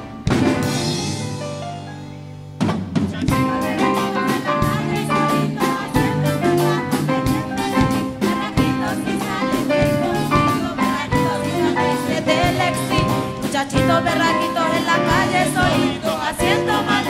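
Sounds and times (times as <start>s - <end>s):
live band instrumental: 0.0s - 17.0s.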